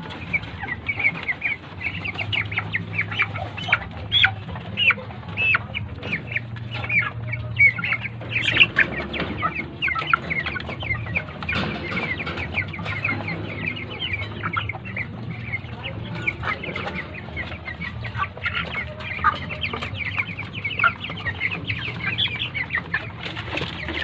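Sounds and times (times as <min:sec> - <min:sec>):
chickens cheeping and clucking: 0:00.0 - 0:24.0.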